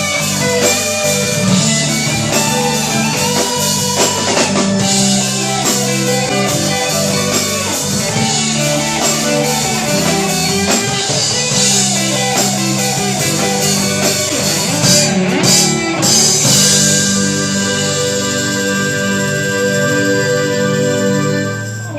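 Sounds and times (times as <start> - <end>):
drum kit: 0.0 - 21.9
electric guitars: 0.0 - 21.9.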